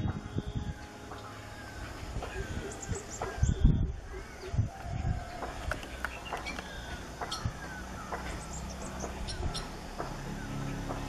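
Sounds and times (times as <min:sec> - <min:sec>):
birds chirping and clicking: 0:00.0 - 0:11.0.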